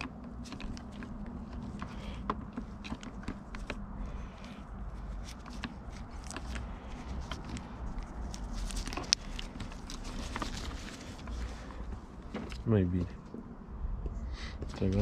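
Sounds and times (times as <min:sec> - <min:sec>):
small clicks and knocks of parts: 0:00.0 - 0:13.2
low steady hum: 0:00.0 - 0:15.0.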